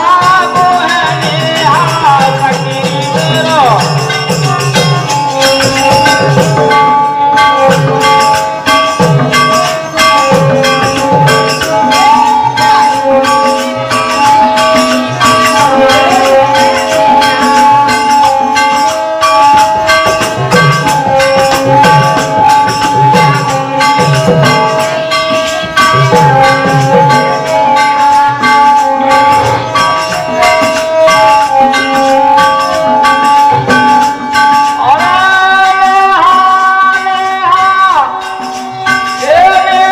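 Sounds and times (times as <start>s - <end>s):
dholak drum strokes: 0.0s - 39.9s
harmonium melody: 0.0s - 39.9s
metallic percussion jingling: 0.0s - 39.9s.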